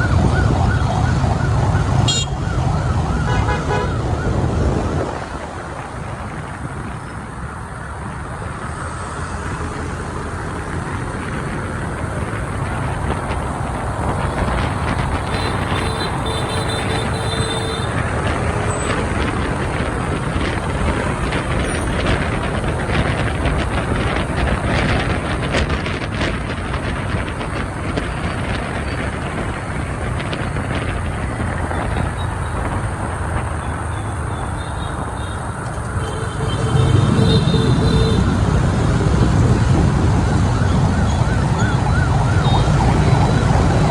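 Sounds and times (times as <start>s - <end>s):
motorbike engine and road noise: 0.0s - 43.9s
traffic noise: 0.0s - 43.9s.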